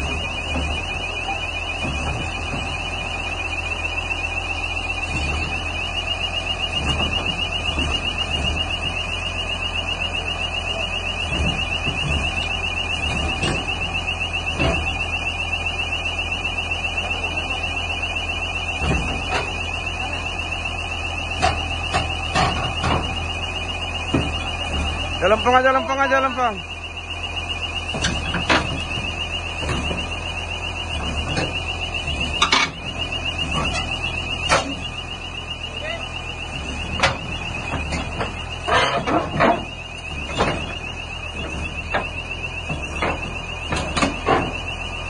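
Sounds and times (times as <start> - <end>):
high-pitched pulsing warning alarm: 0.0 - 45.0
low engine drone: 0.0 - 45.0.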